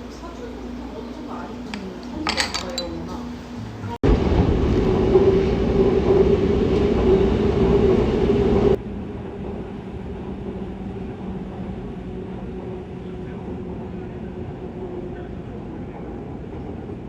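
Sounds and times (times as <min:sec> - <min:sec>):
train rumbling: 0:03.2 - 0:17.0.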